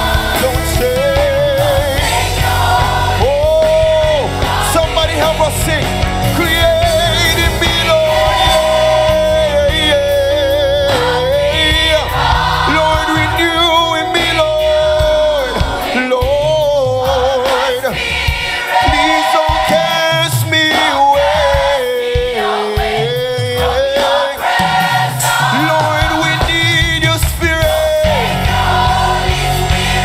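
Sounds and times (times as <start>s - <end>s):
choir singing slow song: 0.0s - 30.0s
instrumental backing: 0.0s - 30.0s.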